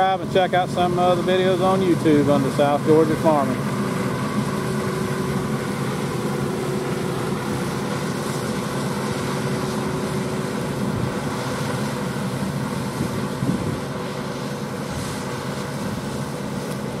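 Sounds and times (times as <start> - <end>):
diesel tractor engines droning: 0.0 - 17.0
harvesting machinery: 0.0 - 17.0.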